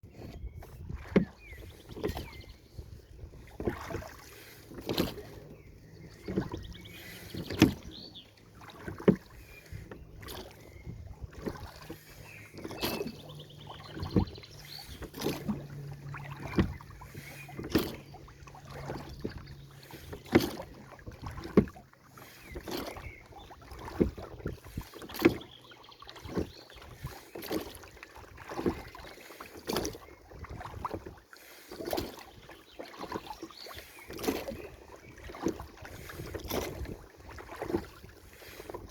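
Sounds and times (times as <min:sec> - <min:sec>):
paddle strokes in water: 0:00.1 - 0:38.9.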